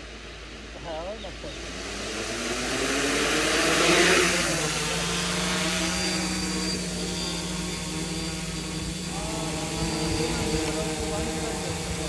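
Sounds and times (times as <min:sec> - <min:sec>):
quadcopter motors buzzing: 0:00.0 - 0:12.0.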